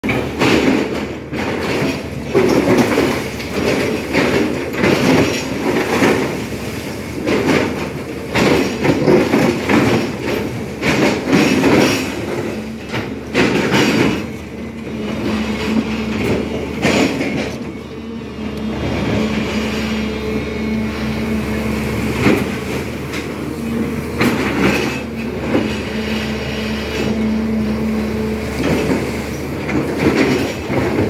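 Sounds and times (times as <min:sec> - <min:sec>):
metallic clanks and knocks: 0:00.0 - 0:06.6, 0:07.2 - 0:17.8, 0:18.5 - 0:31.0
excavator engine and hydraulics: 0:00.0 - 0:31.0.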